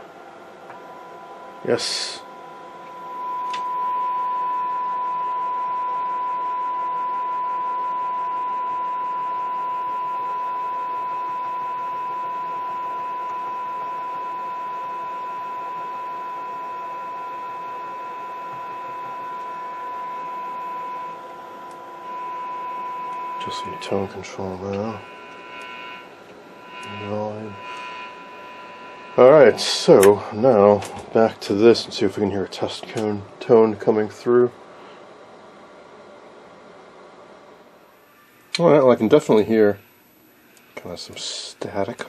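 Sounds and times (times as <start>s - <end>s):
steady test tone: 0.0s - 34.5s.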